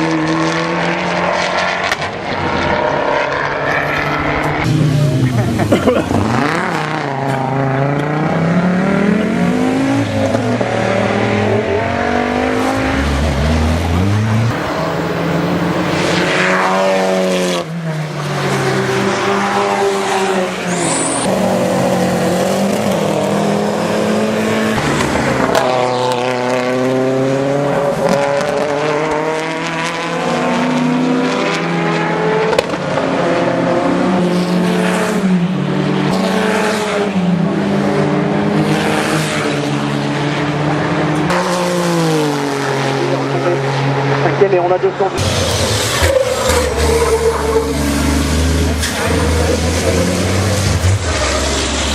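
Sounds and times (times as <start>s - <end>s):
race car engines passing: 0.0s - 51.9s.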